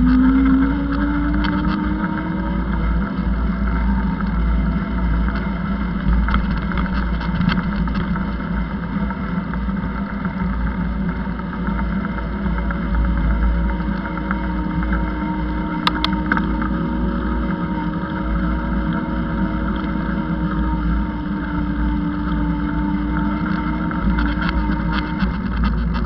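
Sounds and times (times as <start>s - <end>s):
vehicle motor humming: 0.0s - 26.0s
wind rumble on microphone: 0.0s - 26.0s.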